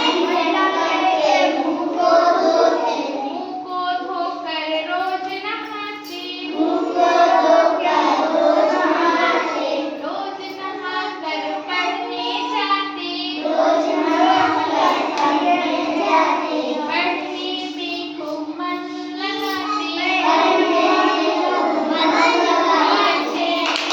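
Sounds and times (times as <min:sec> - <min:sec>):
child singing: 0:00.0 - 0:23.9
steady low hum: 0:00.0 - 0:23.9.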